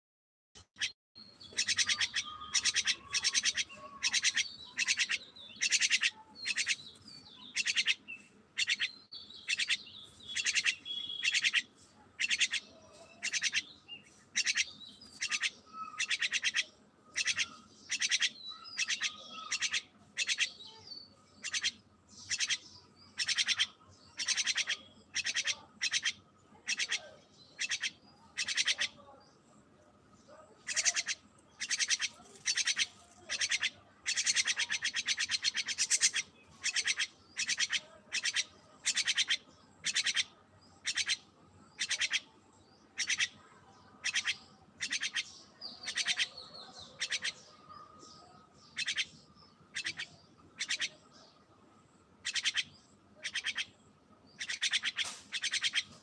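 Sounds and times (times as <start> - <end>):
myna harsh raspy calls: 1.5 - 20.7, 21.3 - 29.0, 30.6 - 51.1, 52.1 - 56.0.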